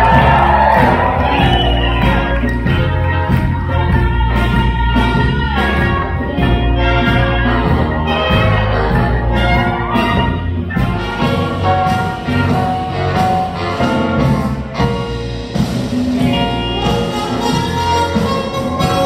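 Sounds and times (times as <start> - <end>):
big band jazz: 0.0 - 19.0
brass held chords: 0.0 - 19.0.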